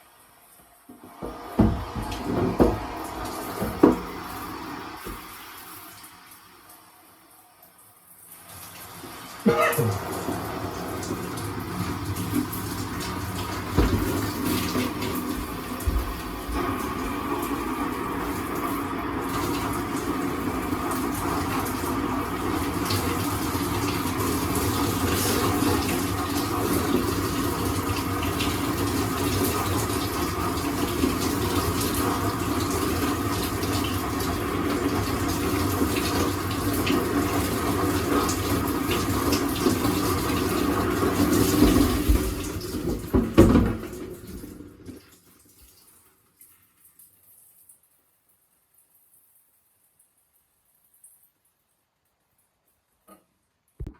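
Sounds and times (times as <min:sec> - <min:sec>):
shower water spraying: 0:01.2 - 0:44.7.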